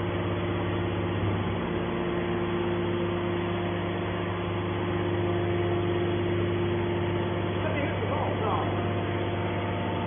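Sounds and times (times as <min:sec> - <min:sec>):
machine hum with steady tone: 0:00.0 - 0:10.0.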